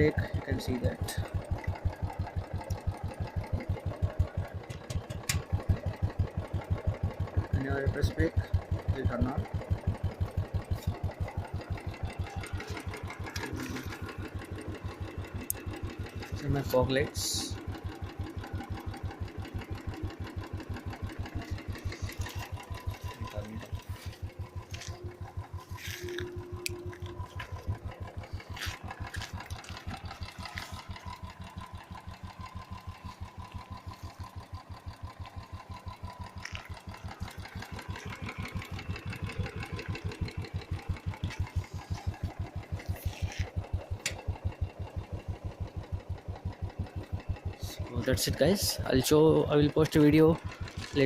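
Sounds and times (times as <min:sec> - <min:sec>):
motorcycle engine idling: 0:00.0 - 0:51.0.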